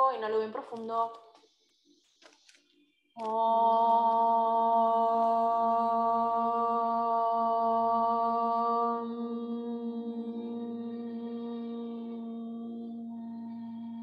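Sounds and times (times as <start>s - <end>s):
woman chanting: 0.0s - 1.3s, 3.2s - 14.0s.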